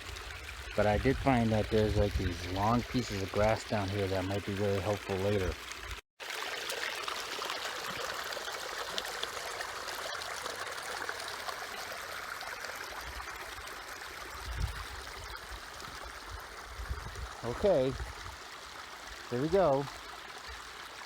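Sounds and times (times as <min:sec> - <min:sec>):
stream babbling: 0:00.0 - 0:21.0.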